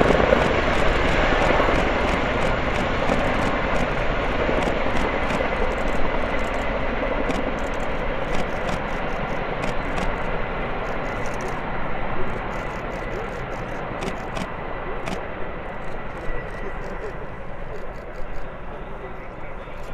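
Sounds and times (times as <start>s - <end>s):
helicopter rotor and engine noise: 0.0s - 19.9s.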